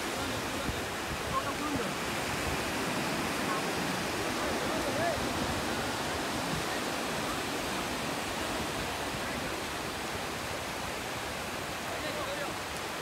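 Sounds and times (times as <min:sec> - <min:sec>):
breaking surf: 0:00.0 - 0:13.0
wind: 0:00.0 - 0:13.0.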